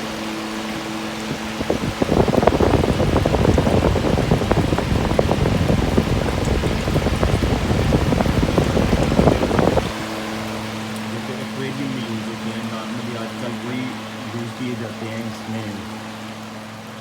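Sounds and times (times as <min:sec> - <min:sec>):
faint fan hum: 0:00.0 - 0:17.0
water splashing and trickling: 0:00.0 - 0:17.0.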